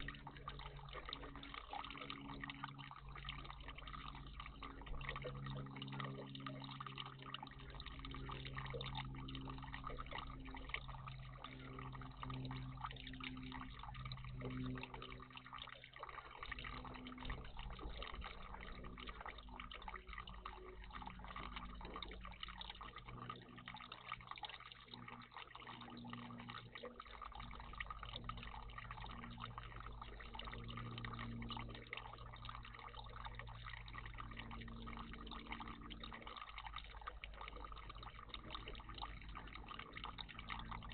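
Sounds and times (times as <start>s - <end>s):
low hum: 0.0s - 40.9s
water trickling and dripping: 0.0s - 40.9s.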